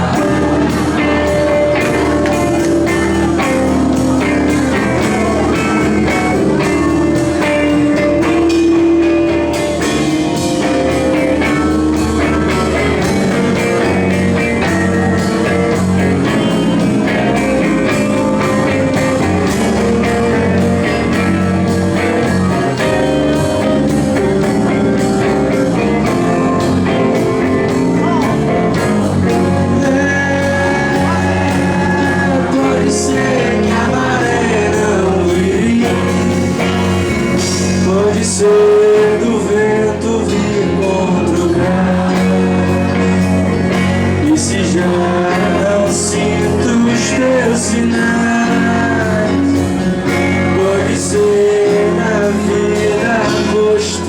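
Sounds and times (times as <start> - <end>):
electric guitar: 0.0 - 54.0
rock band playing: 0.0 - 54.0.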